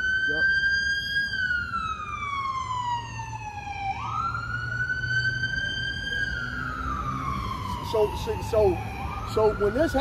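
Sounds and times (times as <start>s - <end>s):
siren wailing: 0.0s - 10.0s.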